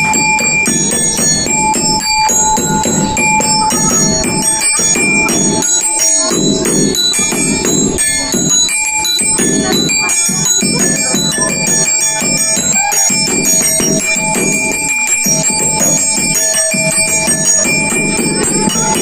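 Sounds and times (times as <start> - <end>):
music with bell-like tones: 0.0 - 19.0.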